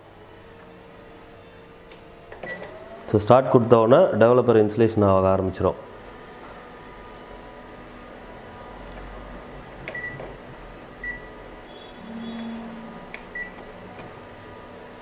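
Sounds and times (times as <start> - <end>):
faint machine hum: 0.0 - 15.0
low hum with higher tone: 0.0 - 15.0.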